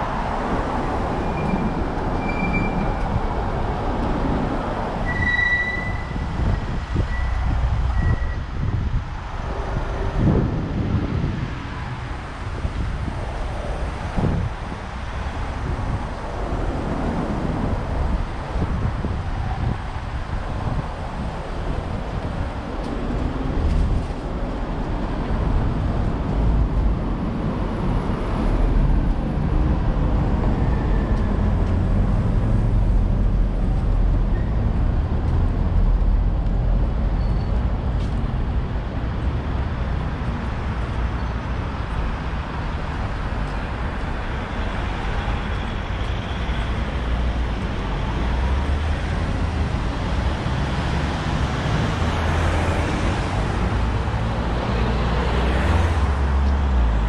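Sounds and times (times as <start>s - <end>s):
city street traffic: 0.0s - 57.0s.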